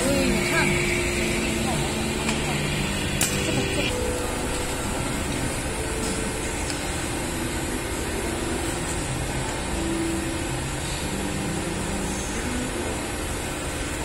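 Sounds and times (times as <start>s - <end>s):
factory machinery humming: 0.0s - 14.0s.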